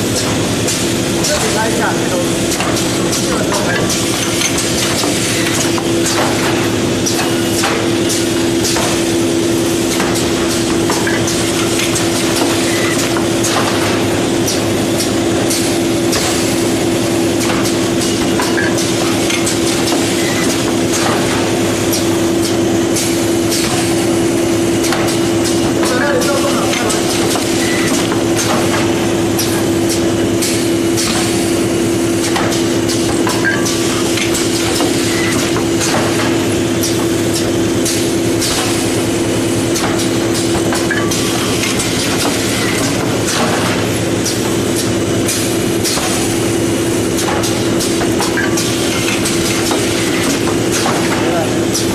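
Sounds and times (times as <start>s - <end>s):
machine humming: 0.0s - 51.9s
mechanical clatter: 0.0s - 51.9s
machine clicks and knocks: 2.5s - 24.1s, 24.8s - 30.1s, 32.2s - 39.0s, 39.6s - 51.9s.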